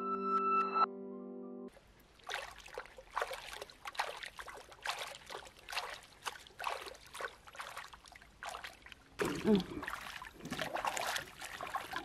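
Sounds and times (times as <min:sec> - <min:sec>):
creek water trickling: 0:01.7 - 0:12.0
water splashing: 0:01.7 - 0:12.0.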